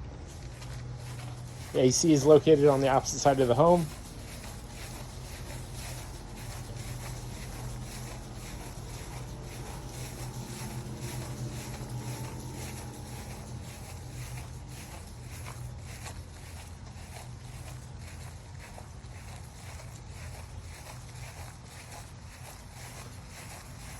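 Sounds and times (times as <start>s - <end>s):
footsteps crunching outdoors: 0.0s - 23.9s
steady low hum: 0.0s - 23.9s.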